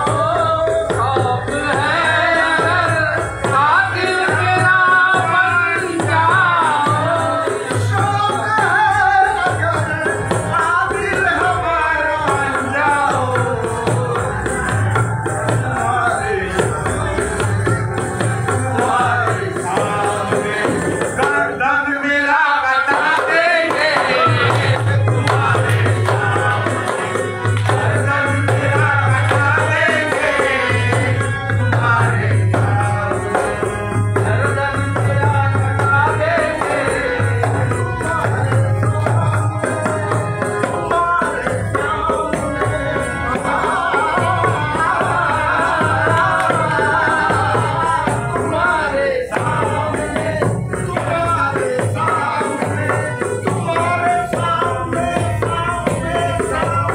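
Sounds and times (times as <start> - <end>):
harmonium: 0.0 - 56.9
men singing: 0.0 - 56.9
steady rhythmic beat: 0.0 - 56.9.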